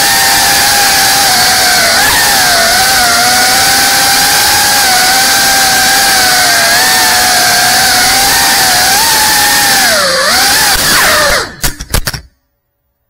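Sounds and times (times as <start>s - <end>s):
drone motors whining: 0.0s - 11.9s.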